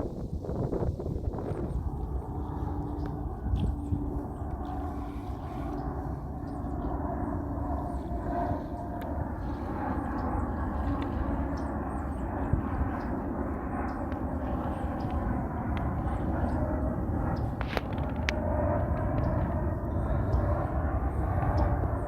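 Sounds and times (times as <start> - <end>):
jet airliner engine rumble: 0.0 - 22.0.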